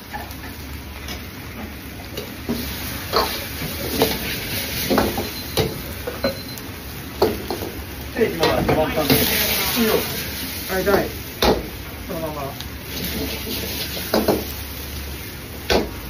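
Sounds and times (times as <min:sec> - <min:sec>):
wok burner roaring: 0:00.0 - 0:16.0.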